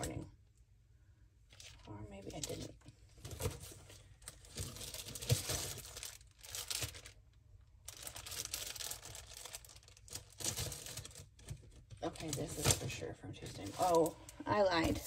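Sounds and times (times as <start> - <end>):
packaging crinkling and rustling: 1.5 - 15.0.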